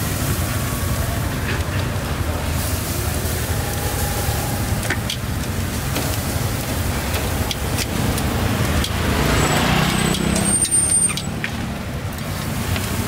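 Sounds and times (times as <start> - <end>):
street traffic rumble: 0.0 - 13.0
vehicle passing close: 0.0 - 13.0.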